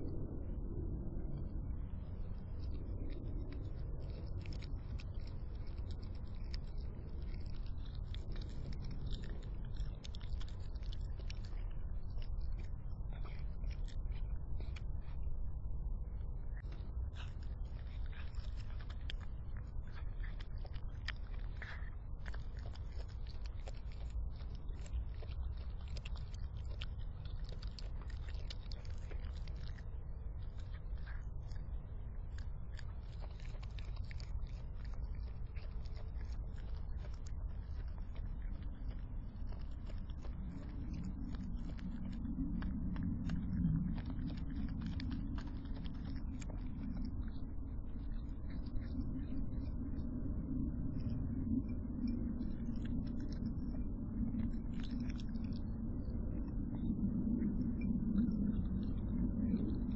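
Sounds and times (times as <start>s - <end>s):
animal chewing with wet crunches: 0.0s - 59.9s
low background rumble: 0.0s - 59.9s.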